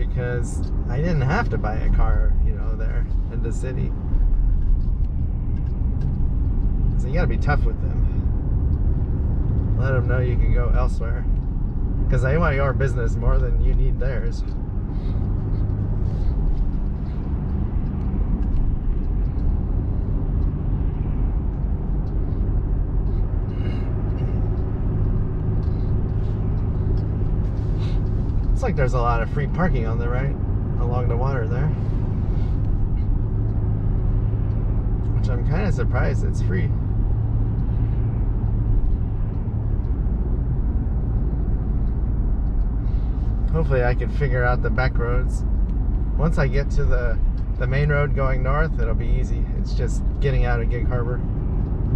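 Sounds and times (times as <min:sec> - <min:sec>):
truck engine and road noise: 0:00.0 - 0:51.9.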